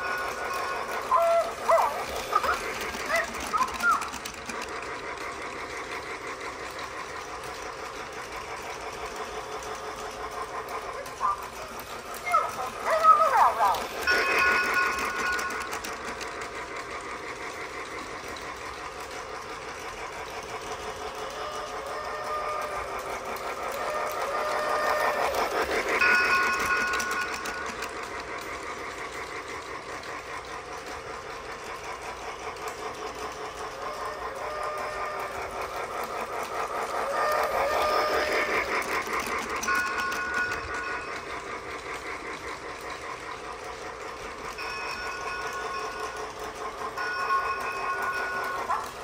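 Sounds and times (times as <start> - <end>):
toy train motor buzz: 0.0 - 49.0
toy train wheel clatter: 0.0 - 49.0.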